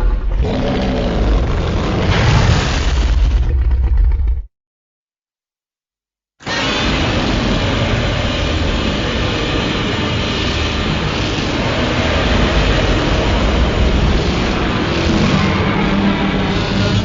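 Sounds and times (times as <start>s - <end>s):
loud steady monster rumbling: 0.0s - 4.5s, 6.4s - 17.0s.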